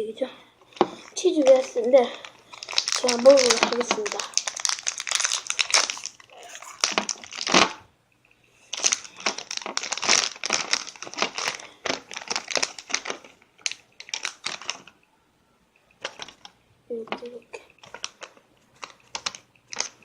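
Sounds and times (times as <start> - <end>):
plastic wrapper crinkling: 0.7 - 7.8, 8.6 - 15.0, 16.0 - 20.0.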